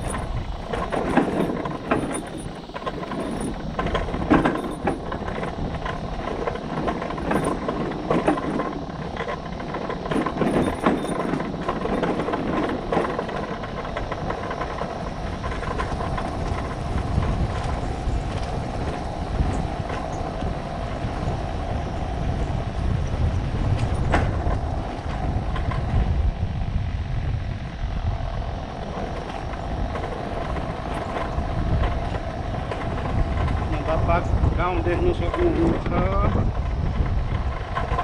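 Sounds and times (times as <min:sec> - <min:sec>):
low engine and road rumble: 0:00.0 - 0:38.0
motorcycle rattling over bumps: 0:00.0 - 0:38.0.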